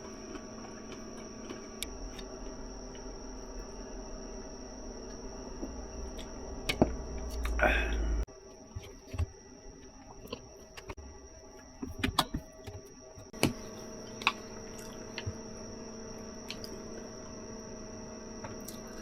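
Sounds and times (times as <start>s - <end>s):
steady hum with fixed tones: 0.0s - 19.0s.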